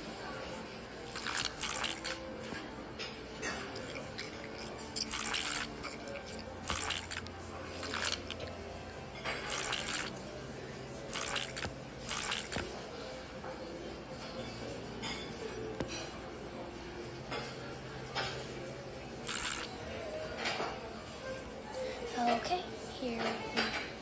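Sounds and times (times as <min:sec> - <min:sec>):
faint background music: 0:00.0 - 0:24.0.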